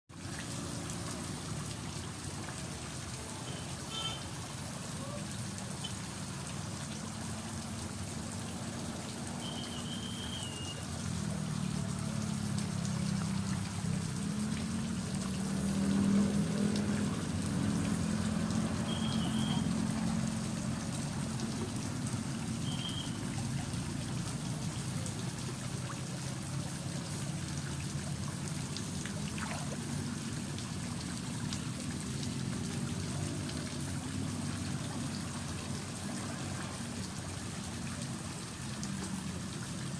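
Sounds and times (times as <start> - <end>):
water gurgling and trickling: 0.1 - 39.9.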